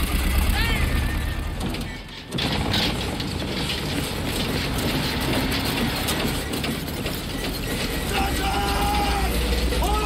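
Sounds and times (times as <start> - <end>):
dense steady clattering rattle: 0.0 - 10.0
road noise: 0.0 - 10.0
vehicle engines running: 0.0 - 10.0.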